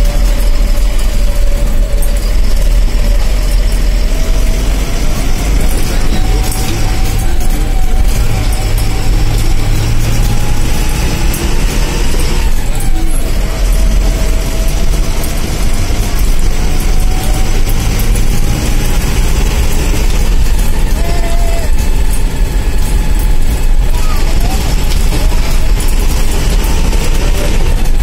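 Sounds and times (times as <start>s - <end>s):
heavy vehicle engine rumble: 0.0s - 28.0s
road noise: 0.0s - 28.0s.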